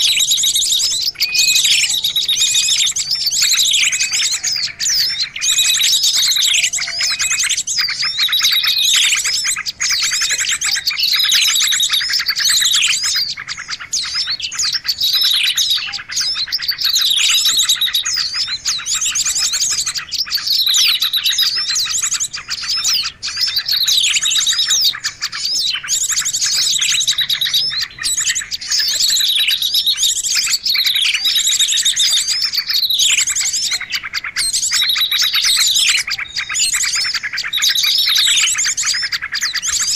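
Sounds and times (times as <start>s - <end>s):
songbirds chattering trills: 0.0s - 39.9s.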